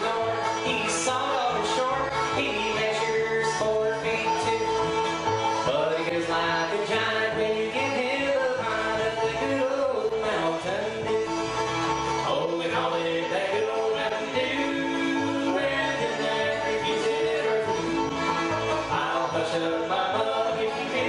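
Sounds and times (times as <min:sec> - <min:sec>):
acoustic bluegrass band playing: 0:00.0 - 0:21.0.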